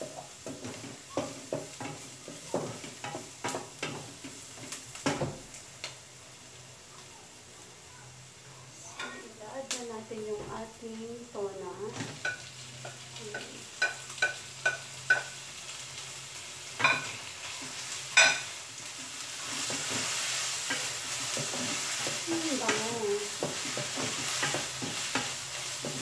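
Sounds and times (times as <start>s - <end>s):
fish sizzling in frying pan: 0.0s - 8.4s, 9.0s - 26.0s.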